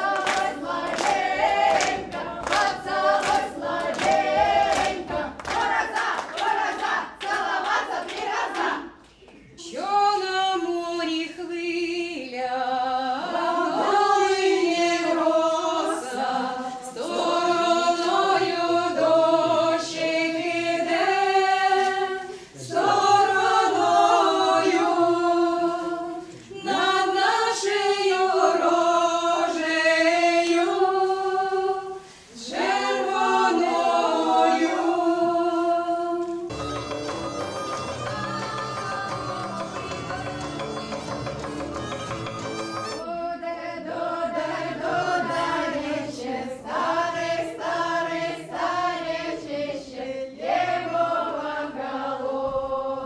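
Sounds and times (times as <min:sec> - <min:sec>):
women's choir singing a cappella: 0:00.0 - 0:53.0.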